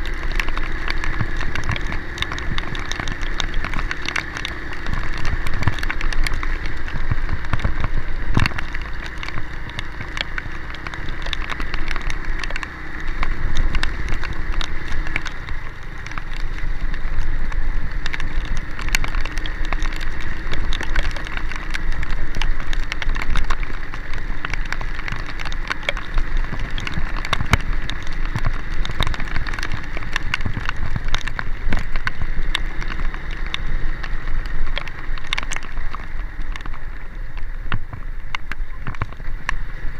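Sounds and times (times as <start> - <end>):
heavy rain drumming: 0.0 - 39.9
vehicle engine and road noise: 0.0 - 39.9.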